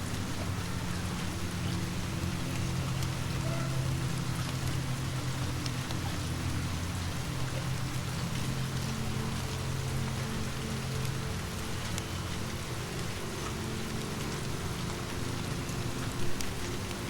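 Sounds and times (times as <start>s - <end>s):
low steady hum: 0.0s - 17.0s
steady rain falling: 0.0s - 17.0s.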